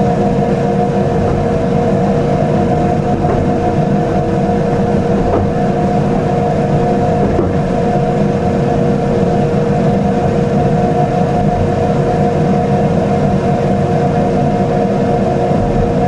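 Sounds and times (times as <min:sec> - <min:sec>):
constant hum: 0:00.0 - 0:16.0
electric train rumble: 0:00.0 - 0:16.0.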